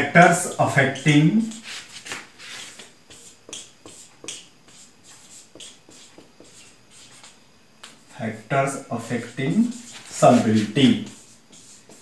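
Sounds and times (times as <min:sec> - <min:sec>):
marker writing on whiteboard: 0:00.3 - 0:08.1, 0:08.7 - 0:12.0.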